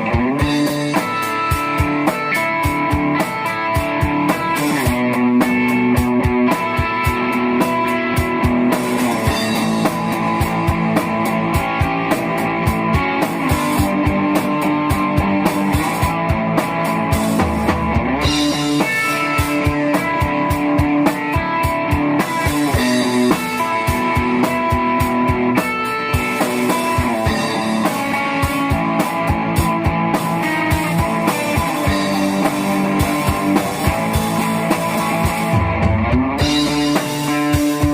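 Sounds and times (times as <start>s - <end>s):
drum kit beat: 0.0s - 37.9s
electric guitar melody: 0.0s - 37.9s.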